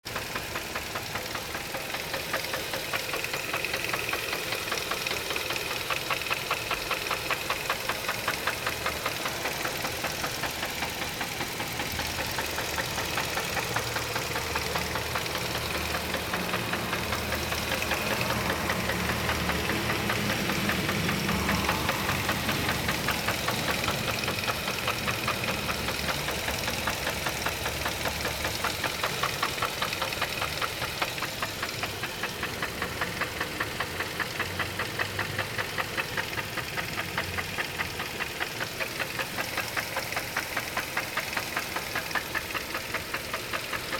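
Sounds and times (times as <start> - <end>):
car engine knocking: 0.0 - 43.9.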